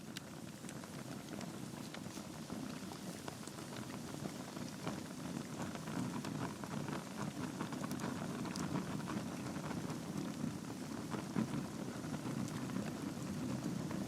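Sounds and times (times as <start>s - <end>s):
logs burning in a fireplace: 0.0s - 14.0s.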